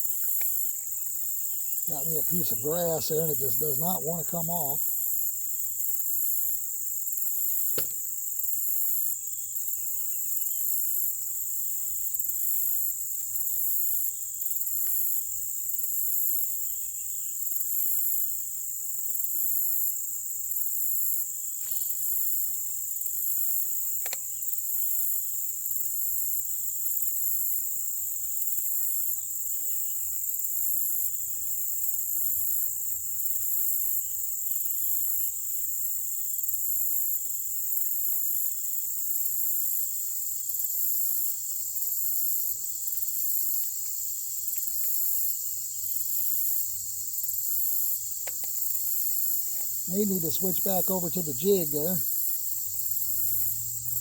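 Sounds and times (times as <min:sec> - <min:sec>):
insect chorus buzzing and trilling: 0:00.0 - 0:54.0.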